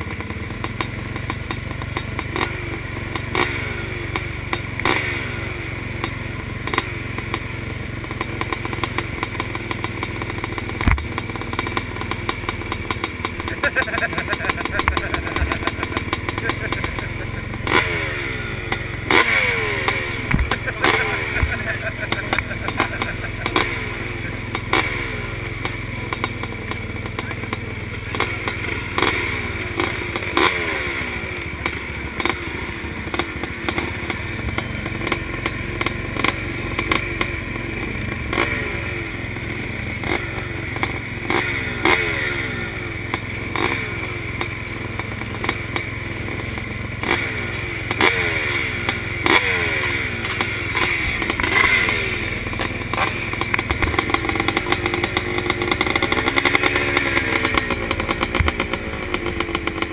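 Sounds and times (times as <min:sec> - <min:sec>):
low engine drone: 0:00.0 - 0:59.9
motorbike throttle blips: 0:00.0 - 0:59.9.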